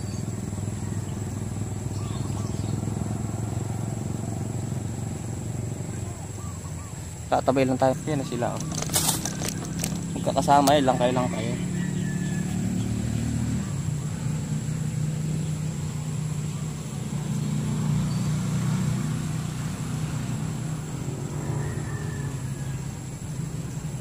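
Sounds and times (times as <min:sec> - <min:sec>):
engine idling hum: 0:00.0 - 0:24.0.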